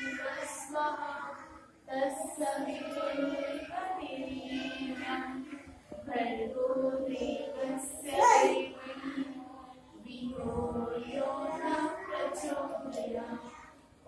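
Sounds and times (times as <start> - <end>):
children and women singing prayer: 0.0 - 14.0.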